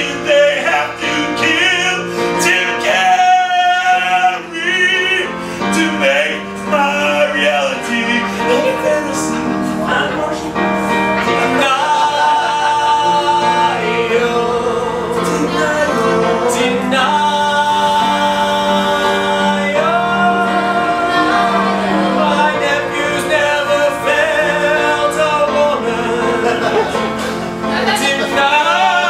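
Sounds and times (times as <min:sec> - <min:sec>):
low instrumental accompaniment: 0:00.0 - 0:29.0
voices singing sustained notes: 0:00.0 - 0:29.0.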